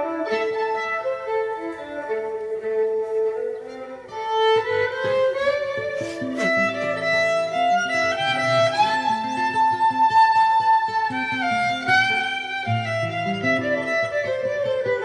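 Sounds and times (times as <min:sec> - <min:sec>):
guitar accompaniment: 0:00.0 - 0:15.0
violin melody with sliding notes: 0:00.0 - 0:15.0.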